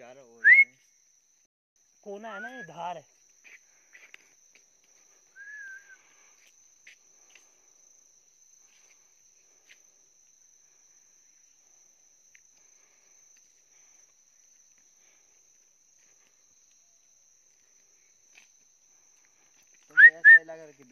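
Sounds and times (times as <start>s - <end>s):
high-pitched insect drone: 0.0s - 20.9s.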